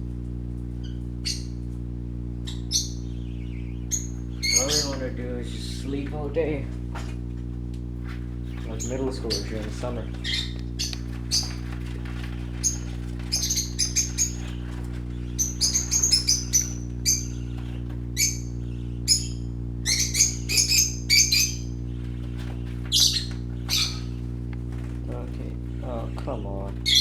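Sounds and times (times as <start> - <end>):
steady low hum: 0.0 - 27.0
parakeets chirping: 0.7 - 7.1, 8.0 - 27.0.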